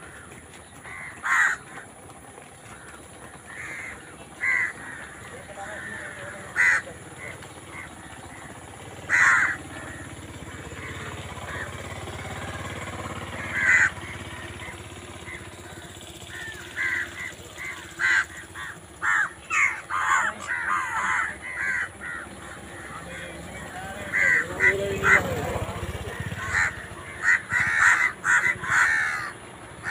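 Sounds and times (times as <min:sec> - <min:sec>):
crows cawing: 0:00.0 - 0:29.9.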